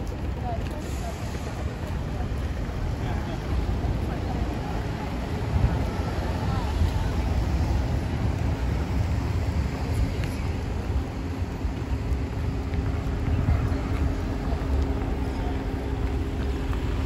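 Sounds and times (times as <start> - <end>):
faint engine hum: 0.0 - 17.0
street traffic: 0.0 - 17.0
wind buffeting the microphone: 0.0 - 17.0.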